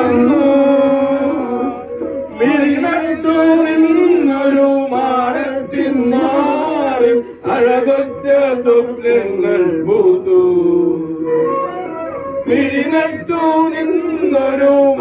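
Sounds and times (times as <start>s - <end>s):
men singing together: 0.0s - 11.5s, 12.4s - 15.0s.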